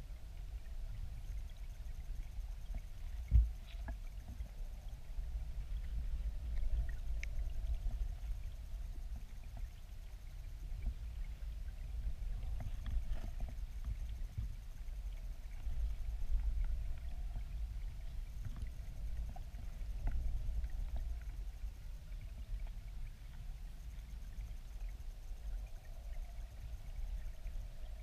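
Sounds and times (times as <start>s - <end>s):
faint ticks: 0.0s - 28.0s
underwater river rumble: 0.0s - 28.0s.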